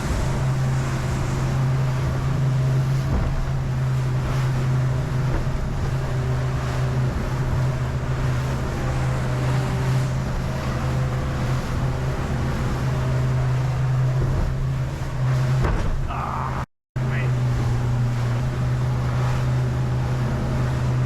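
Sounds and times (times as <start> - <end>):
outboard motor humming: 0.0 - 21.0
water rushing along hull: 0.0 - 21.0.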